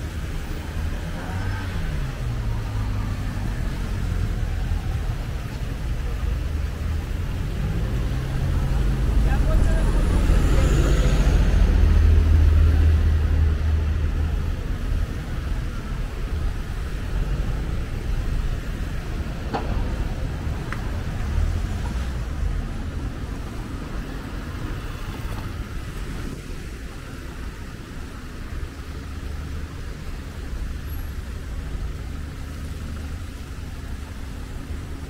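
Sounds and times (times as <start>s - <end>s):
bus engine rumbling past: 0.0s - 35.0s
cars driving by: 0.0s - 35.0s.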